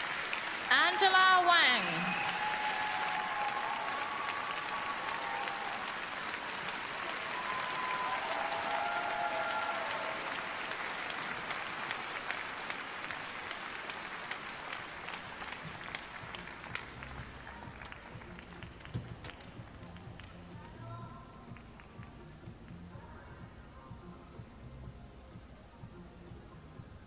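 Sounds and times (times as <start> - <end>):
audience applauding: 0.0 - 22.2.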